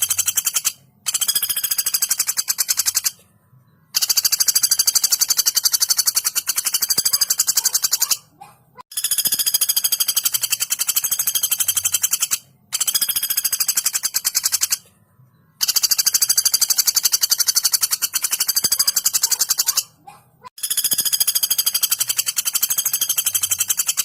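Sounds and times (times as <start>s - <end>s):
woodpecker rattling call: 0.0s - 3.2s, 3.9s - 14.9s, 15.6s - 24.0s.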